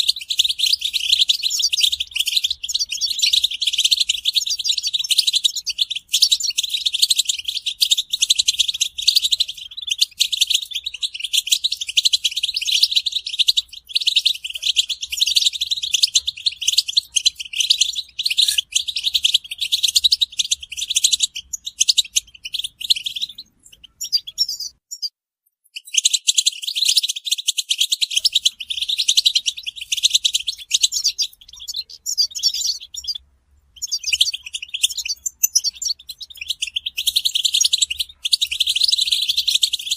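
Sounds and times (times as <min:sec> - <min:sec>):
finch song and chattering: 0:00.0 - 0:39.9.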